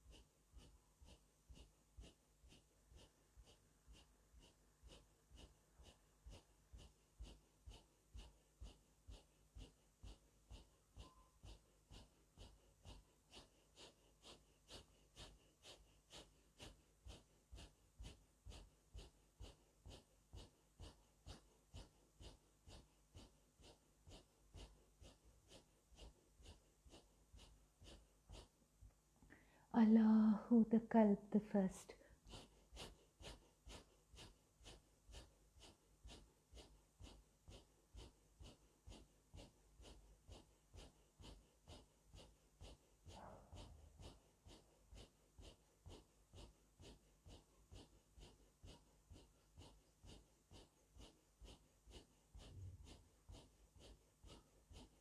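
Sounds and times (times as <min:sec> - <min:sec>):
forceful breathing through nose: 0:00.0 - 0:30.8, 0:31.8 - 0:55.0.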